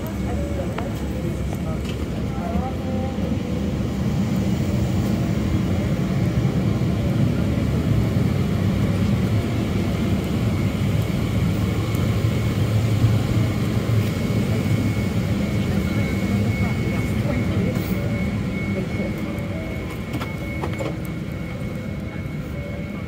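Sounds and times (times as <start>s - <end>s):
airplane cabin hum: 0.0s - 23.0s.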